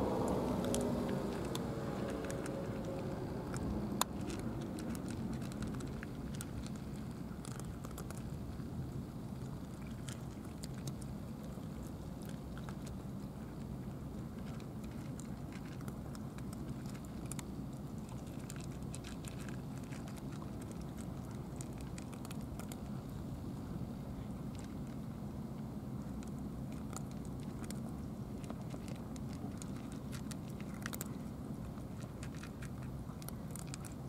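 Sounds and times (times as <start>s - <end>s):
cats chewing and lapping: 0.0s - 34.0s
low background rumble: 0.0s - 34.0s.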